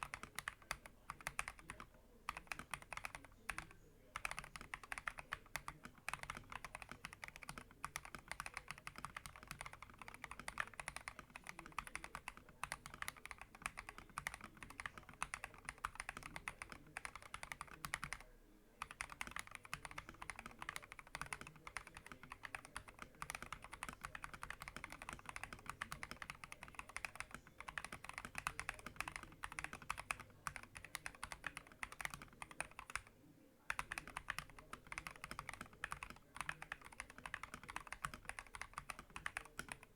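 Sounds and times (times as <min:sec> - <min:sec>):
mechanical keyboard typing: 0:00.0 - 0:33.1, 0:33.7 - 0:39.9.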